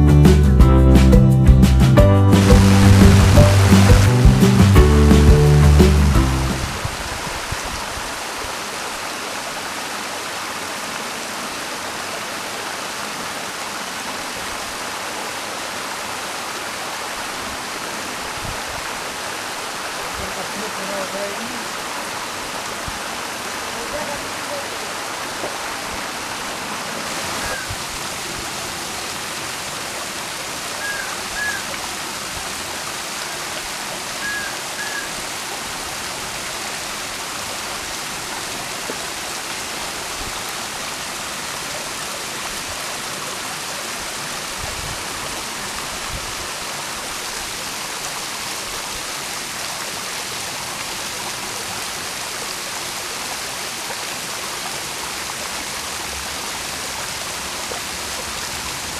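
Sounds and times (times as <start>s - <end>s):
waterfall rushing hiss: 2.3s - 58.9s.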